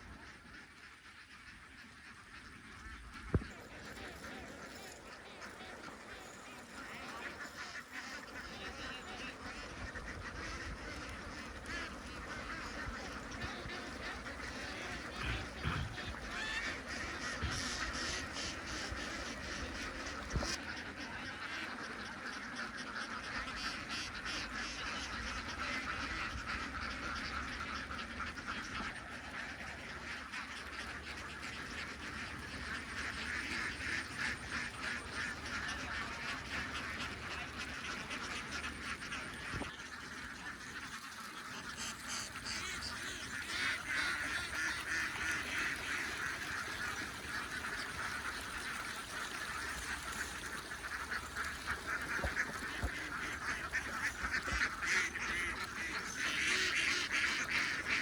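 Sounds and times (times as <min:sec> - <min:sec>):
ducks quacking: 0:00.0 - 0:58.0.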